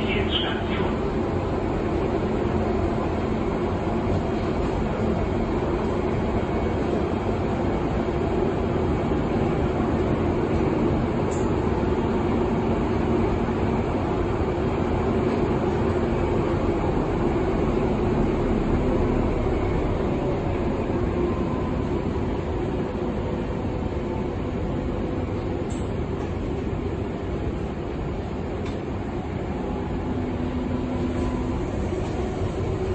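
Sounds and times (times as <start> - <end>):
train wheels rumbling on rails: 0.0 - 32.9.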